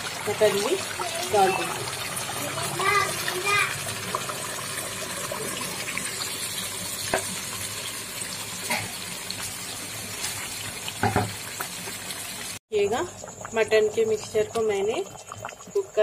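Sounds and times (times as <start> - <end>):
oil sizzling in a pot: 0.0 - 16.0.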